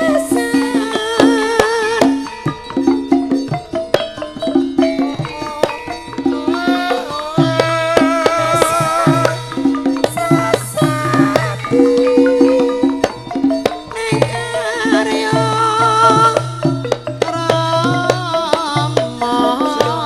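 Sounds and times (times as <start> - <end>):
hand drum strokes: 0.0 - 20.0.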